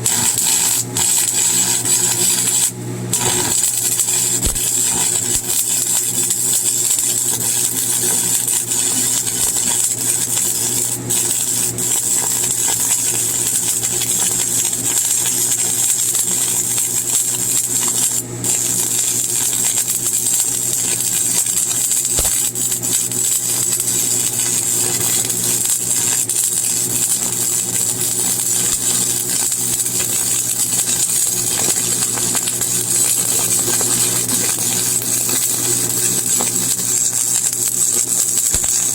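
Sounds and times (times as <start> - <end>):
electrical hum: 0.0 - 17.6, 19.9 - 38.9
welding arc crackling hiss: 0.0 - 38.9.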